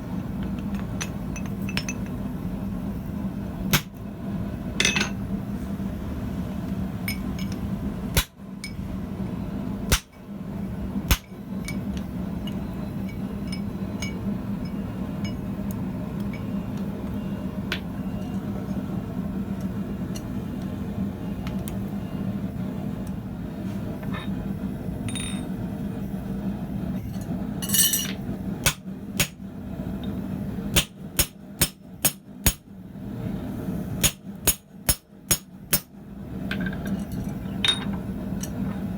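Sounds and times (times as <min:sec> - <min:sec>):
forge humming: 0:00.0 - 0:38.9.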